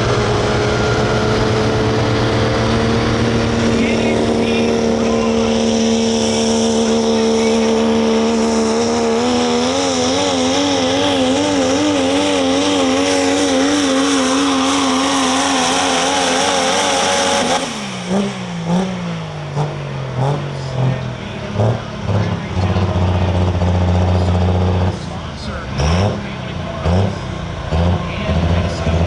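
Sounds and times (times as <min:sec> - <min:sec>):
diesel truck engine at full throttle: 0:00.0 - 0:29.0
engine rev blips: 0:00.0 - 0:29.0.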